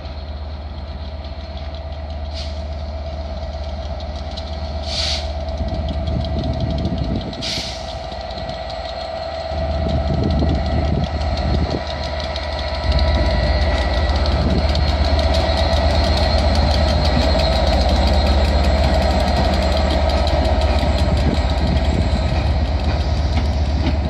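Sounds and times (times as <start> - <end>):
locomotive engine running: 0.0 - 24.0.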